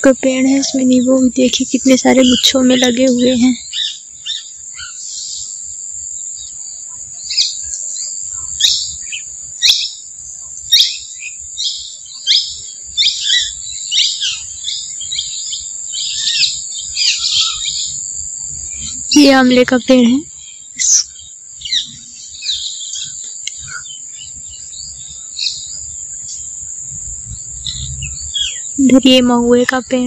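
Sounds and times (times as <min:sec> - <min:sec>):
birds chirping: 0:00.0 - 0:30.0
high-pitched insect buzz: 0:00.0 - 0:30.0.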